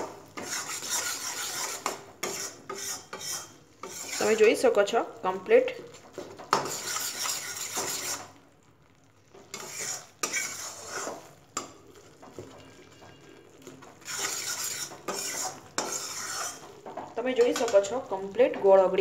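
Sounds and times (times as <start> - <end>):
metal spatula scraping pan: 0.0 - 4.8, 6.1 - 8.4, 9.4 - 18.7.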